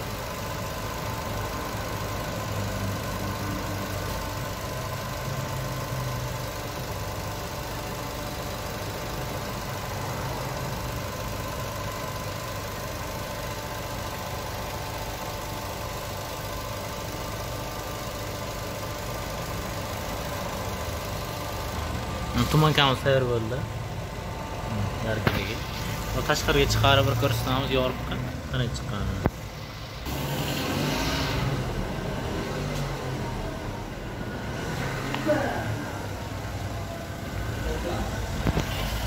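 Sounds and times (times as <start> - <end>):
machine droning: 0.0 - 39.0.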